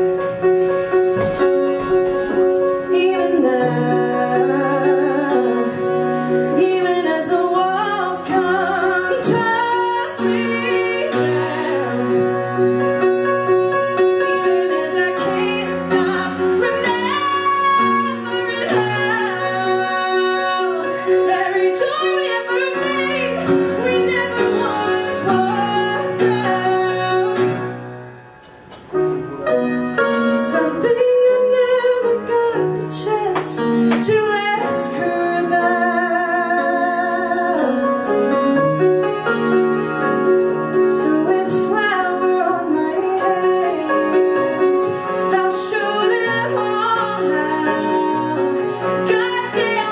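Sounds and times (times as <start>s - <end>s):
grand piano accompaniment: 0.0s - 49.9s
woman singing ballad: 2.7s - 13.2s, 14.0s - 27.8s, 30.3s - 38.6s, 40.9s - 49.9s.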